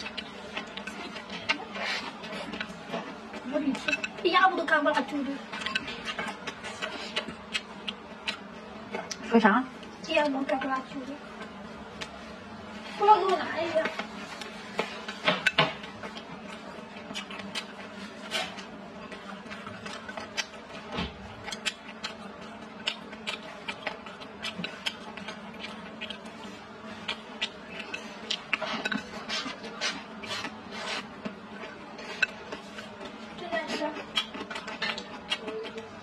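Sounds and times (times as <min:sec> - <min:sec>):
chewing with mouth closed: 0:00.0 - 0:04.2, 0:05.5 - 0:09.2, 0:14.4 - 0:36.0
steady low hum: 0:00.0 - 0:36.0.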